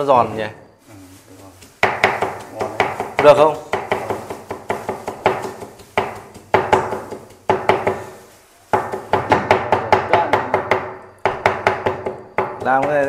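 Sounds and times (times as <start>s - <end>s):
cleaver chopping on wooden block: 1.6s - 8.0s, 8.8s - 13.0s.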